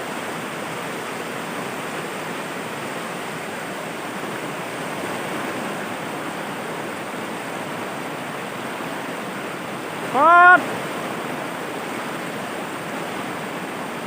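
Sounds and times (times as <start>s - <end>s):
river rushing over rapids: 0.0s - 14.0s.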